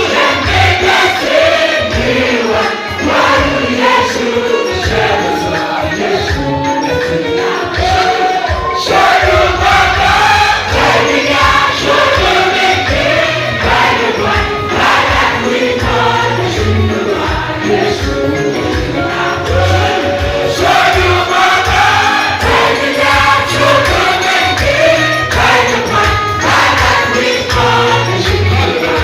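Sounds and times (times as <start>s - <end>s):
group of voices singing: 0.0s - 29.0s.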